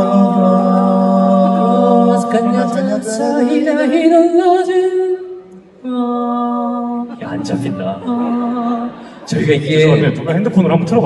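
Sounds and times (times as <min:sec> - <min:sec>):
male group singing a cappella: 0:00.0 - 0:05.2, 0:05.9 - 0:10.4.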